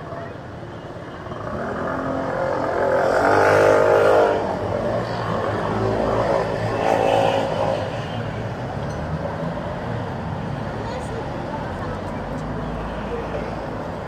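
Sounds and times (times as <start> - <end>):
cars passing and accelerating: 0.0 - 14.0.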